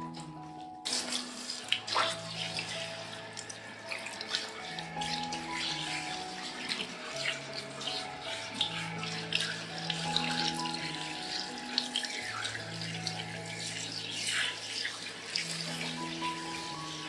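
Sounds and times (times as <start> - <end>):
background music: 0.0 - 17.0
shower spraying water: 0.0 - 17.0.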